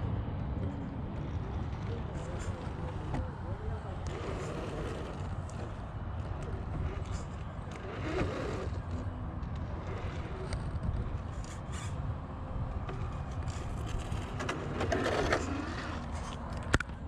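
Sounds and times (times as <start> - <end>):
electric motor and gear whine: 0.0 - 17.0
tires scraping over dirt and rock: 1.1 - 17.0.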